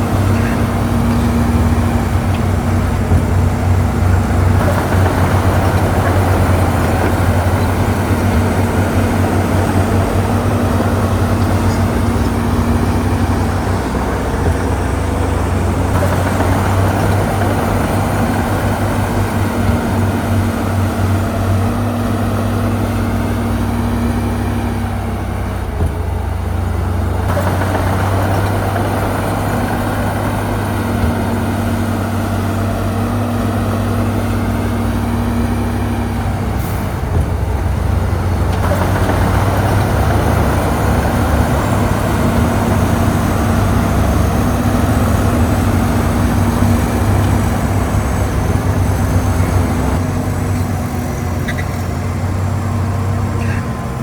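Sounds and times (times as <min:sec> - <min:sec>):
heavy diesel machinery droning: 0:00.0 - 0:54.0.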